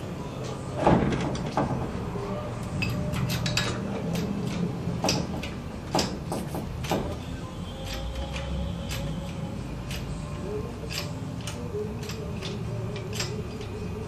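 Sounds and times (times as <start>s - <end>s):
metal clinks and knocks: 0.8s - 14.0s.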